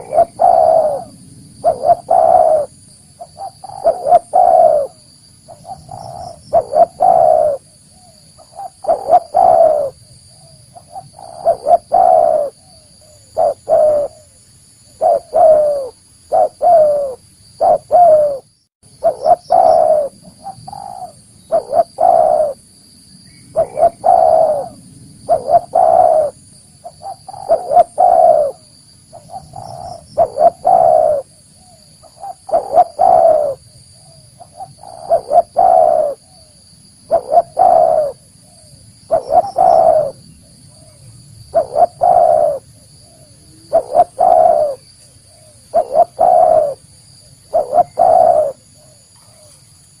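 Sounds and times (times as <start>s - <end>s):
dove cooing: 0.0s - 22.6s, 23.5s - 49.7s.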